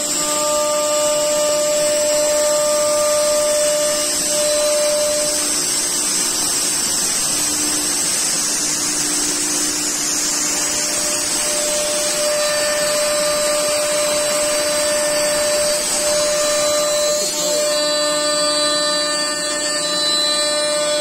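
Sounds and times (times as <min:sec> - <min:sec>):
dust extraction running: 0:00.0 - 0:20.6
cutter hiss: 0:00.0 - 0:21.0
router spindle whine: 0:00.0 - 0:21.0.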